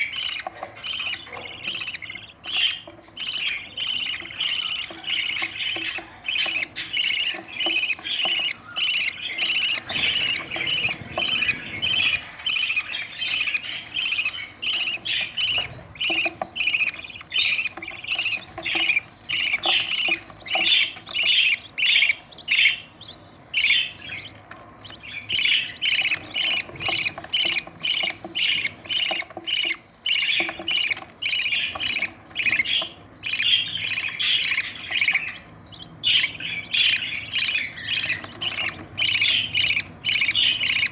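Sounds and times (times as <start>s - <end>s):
chicks squawking begging calls: 0.0s - 40.9s.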